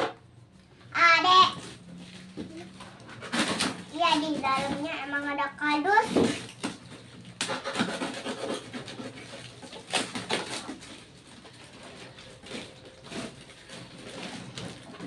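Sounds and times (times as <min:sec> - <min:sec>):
cardboard rustling and scraping: 0:01.5 - 0:15.0.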